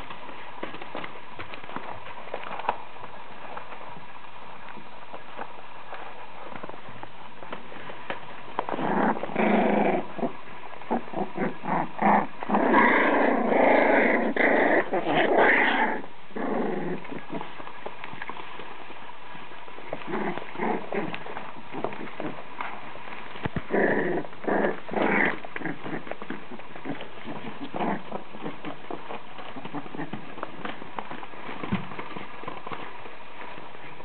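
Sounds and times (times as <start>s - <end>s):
paws scratching on newspaper: 0.0s - 11.6s, 16.8s - 34.0s
puppies growling: 6.0s - 34.0s.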